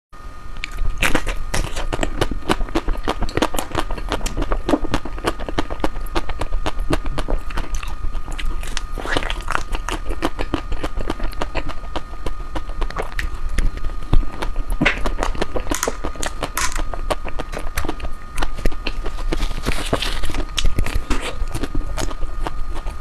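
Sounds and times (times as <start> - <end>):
low hum: 0.2 - 23.0
licking and chewing mouth sounds: 0.6 - 23.0.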